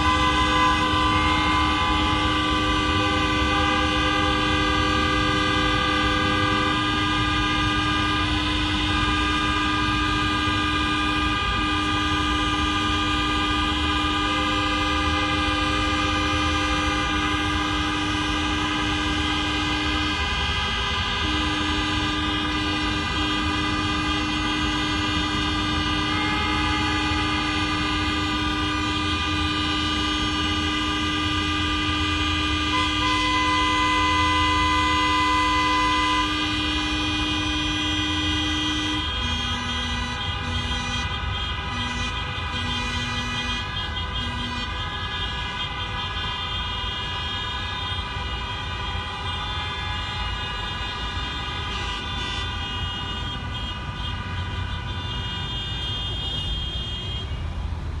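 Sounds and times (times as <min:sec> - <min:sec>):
car horns blasting: 0:00.0 - 0:57.6
low car horn honking: 0:00.0 - 0:57.6
road traffic: 0:00.0 - 0:58.0.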